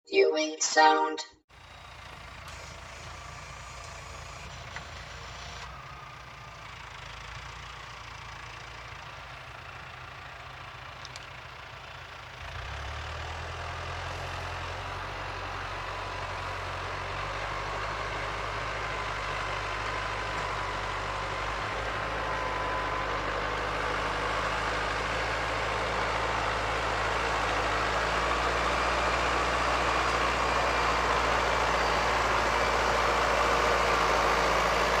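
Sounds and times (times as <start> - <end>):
tractor engine droning: 1.6 - 35.0.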